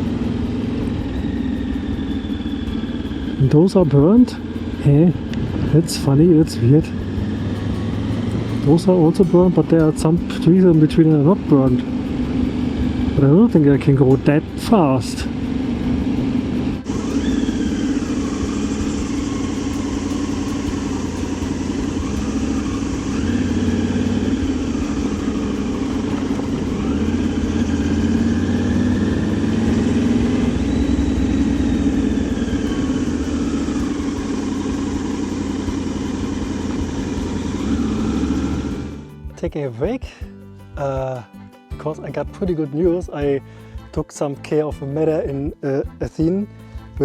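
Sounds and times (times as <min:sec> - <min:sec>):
motorcycle engine revving: 0:00.0 - 0:39.5.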